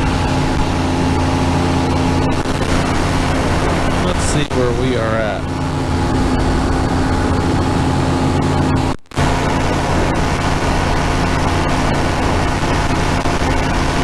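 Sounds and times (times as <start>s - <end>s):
engine and propeller running: 0.0s - 14.0s.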